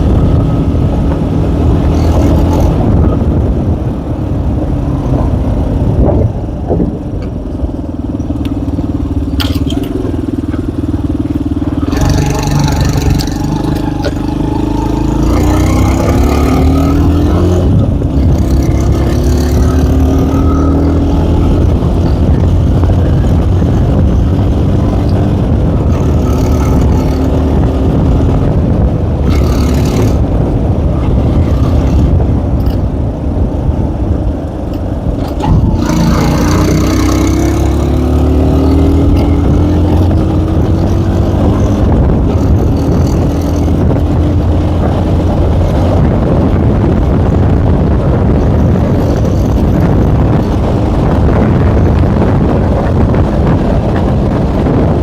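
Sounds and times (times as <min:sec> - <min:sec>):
moped engine revving: 0:00.0 - 0:55.0.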